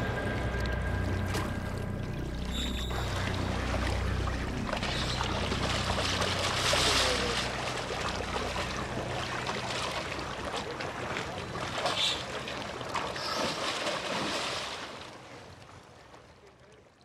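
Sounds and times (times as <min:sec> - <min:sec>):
seawater splashing and churning: 0:00.0 - 0:17.0.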